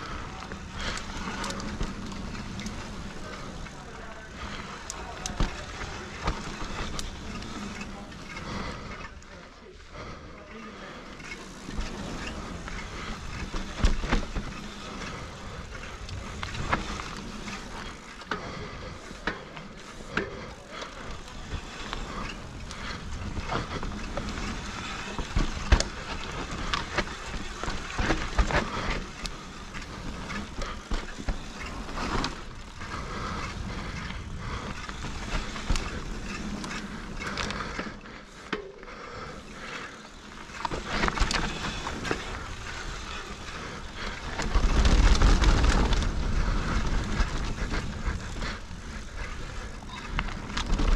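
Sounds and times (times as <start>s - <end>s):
bike knocks and rattles: 0.0s - 9.1s, 11.2s - 50.9s
tyres rolling on dirt: 0.0s - 50.9s.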